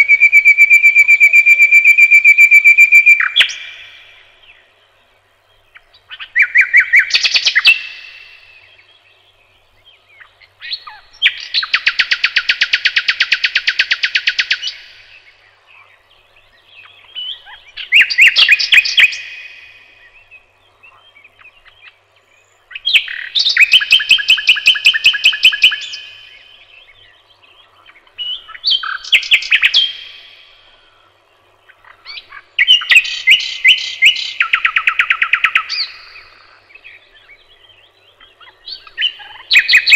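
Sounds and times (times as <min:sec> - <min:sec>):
songbird trilling: 0:00.0 - 0:05.0, 0:05.6 - 0:39.9.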